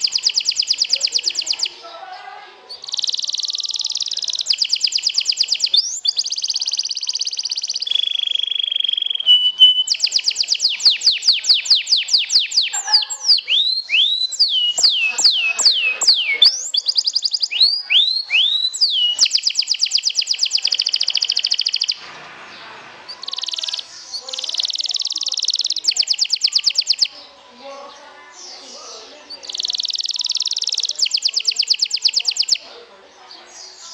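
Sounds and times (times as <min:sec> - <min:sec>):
canary singing: 0:00.0 - 0:22.1, 0:23.1 - 0:33.9.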